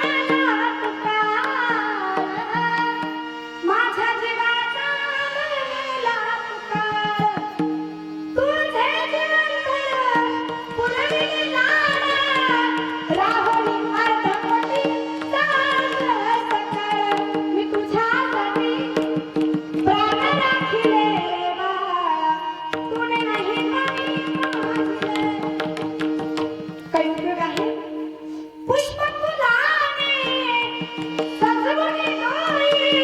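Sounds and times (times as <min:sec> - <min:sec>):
tabla strokes: 0:00.0 - 0:04.9, 0:05.8 - 0:33.0.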